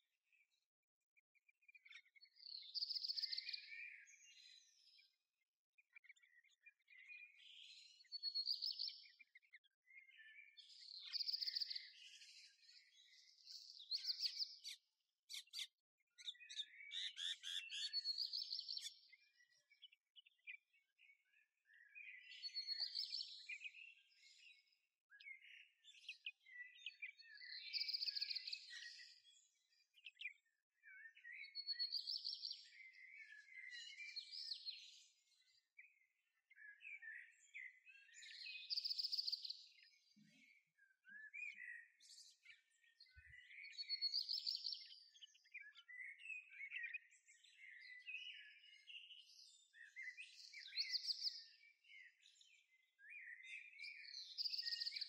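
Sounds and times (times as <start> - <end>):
soft bird chirps: 0.0 - 55.0
songbird singing: 0.0 - 55.0.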